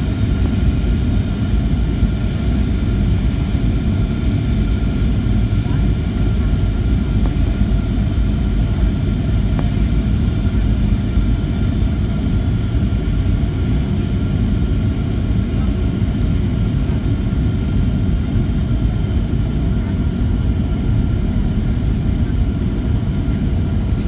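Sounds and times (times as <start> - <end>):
aircraft cabin rumble: 0.0 - 24.0
faint jet engine whine: 0.0 - 24.0.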